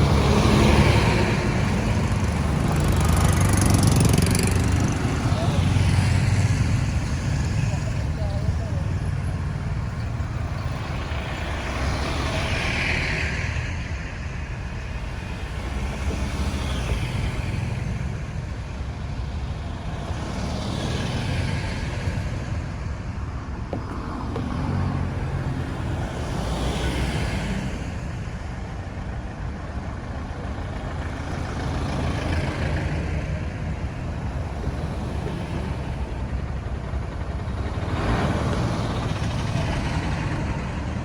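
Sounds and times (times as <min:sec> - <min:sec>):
vehicles passing on road: 0:00.0 - 0:41.0.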